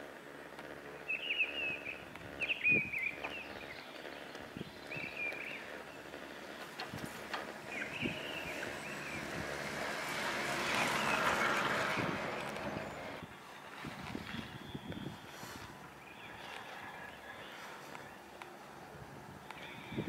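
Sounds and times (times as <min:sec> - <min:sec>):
small bird chirping: 0:00.9 - 0:18.5.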